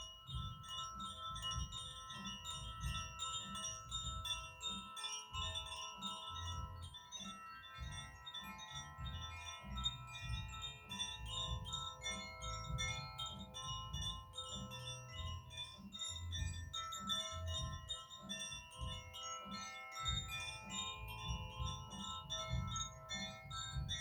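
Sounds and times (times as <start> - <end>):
chimes tinkling and ringing: 0.0 - 24.0.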